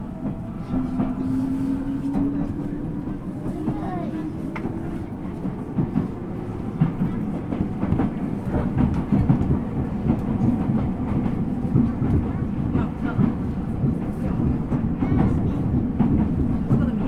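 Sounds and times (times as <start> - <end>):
track knocks and clacks: 0.0 - 17.0
train wheels rumbling on rail: 0.0 - 17.0.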